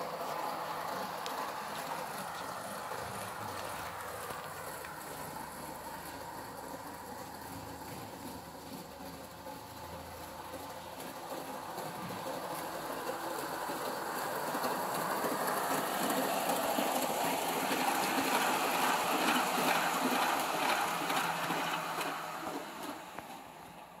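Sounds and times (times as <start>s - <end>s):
model train wheels rattling on track: 0.0s - 24.0s.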